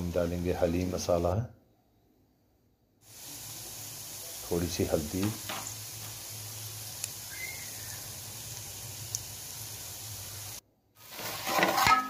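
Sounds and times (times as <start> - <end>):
oil sizzling with onions: 0.0 - 1.3, 3.0 - 12.0.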